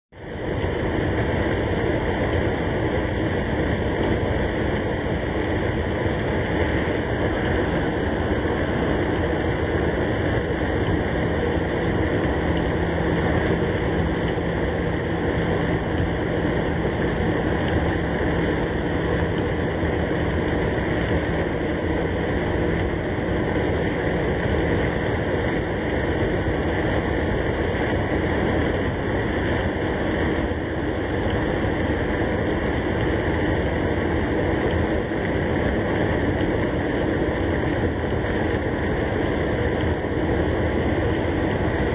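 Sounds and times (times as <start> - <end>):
rain heard inside car: 0.2 - 41.9
road noise inside car: 0.2 - 41.9.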